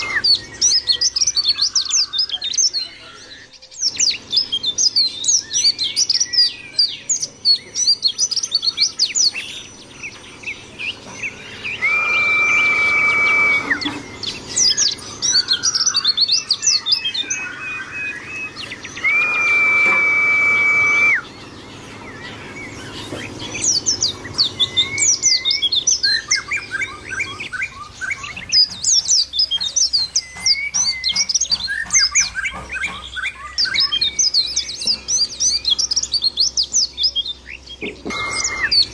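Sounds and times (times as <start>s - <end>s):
bird twittering chirps and trills: 0.0s - 38.9s
long level bird whistle: 0.0s - 38.9s.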